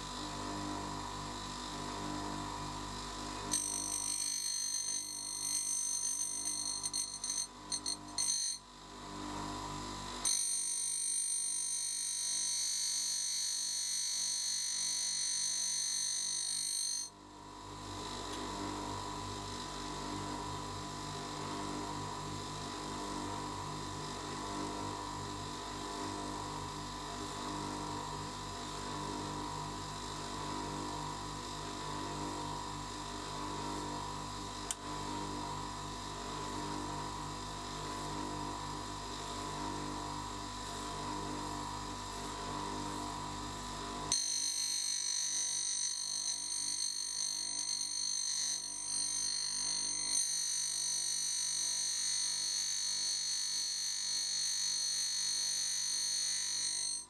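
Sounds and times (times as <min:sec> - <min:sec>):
bench grinder whine: 0:00.0 - 0:57.0.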